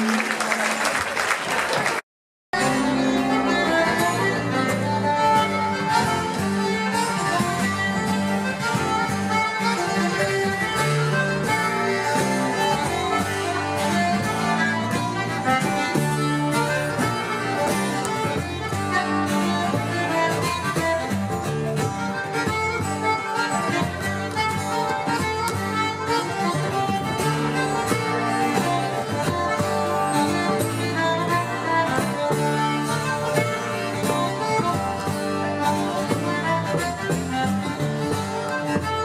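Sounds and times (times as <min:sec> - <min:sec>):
acoustic guitar: 0:02.6 - 0:39.0
button accordion playing: 0:02.6 - 0:39.0
double bass: 0:02.6 - 0:39.0.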